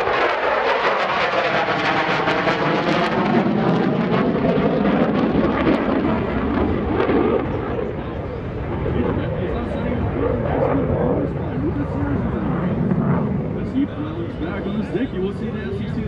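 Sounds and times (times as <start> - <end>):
fighter jet flying past: 0.0 - 16.0.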